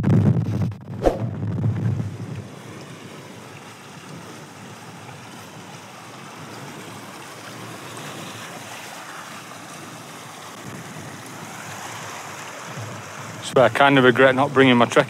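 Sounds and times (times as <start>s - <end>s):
mountain stream running water: 2.1s - 15.0s.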